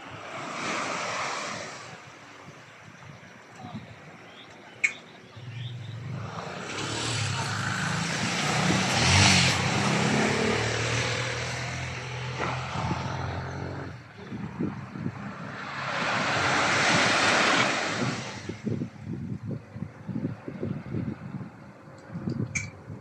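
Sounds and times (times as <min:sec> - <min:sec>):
surf on the beach: 0:00.0 - 0:23.0.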